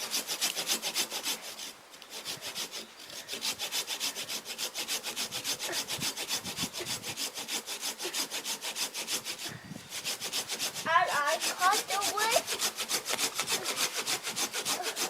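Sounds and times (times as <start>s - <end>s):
hand saw rasping through wood: 0.0s - 15.0s.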